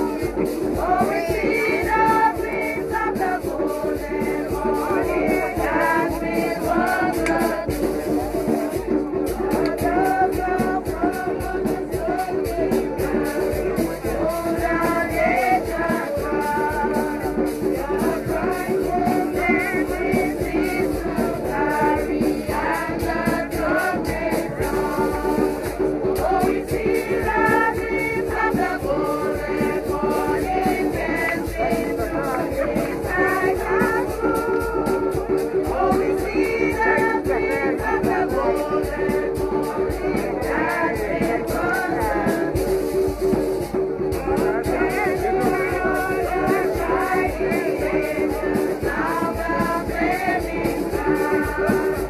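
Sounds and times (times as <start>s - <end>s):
group singing: 0.0s - 52.0s
rattle shaking a beat: 0.0s - 52.0s.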